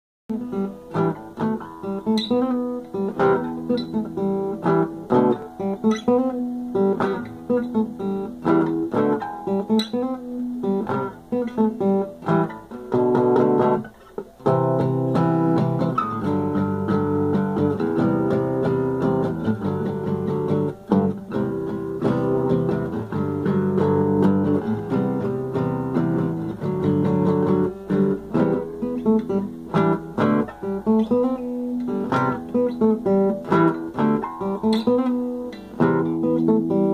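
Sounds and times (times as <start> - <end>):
acoustic guitar playing: 0.3 - 36.9.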